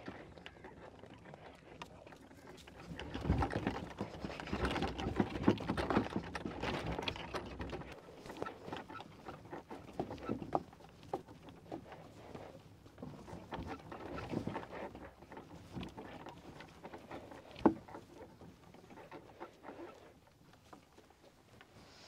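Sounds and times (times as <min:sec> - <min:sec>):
ox hoof steps: 0:00.0 - 0:22.0
cart wheels rumbling: 0:02.1 - 0:21.8
wooden cart rattling: 0:02.4 - 0:21.5.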